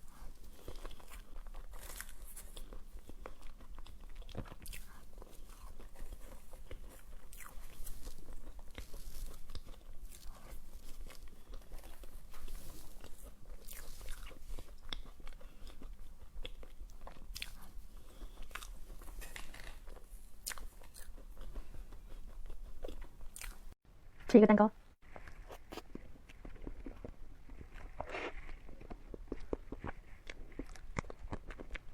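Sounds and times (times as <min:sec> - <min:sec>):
person chewing crunchy food: 0:00.0 - 0:23.8, 0:25.0 - 0:31.9.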